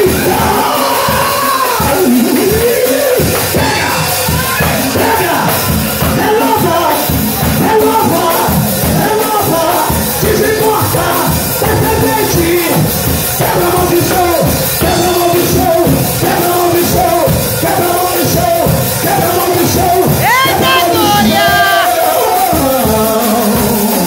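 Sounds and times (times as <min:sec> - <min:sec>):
amplified worship music: 0:00.0 - 0:24.0.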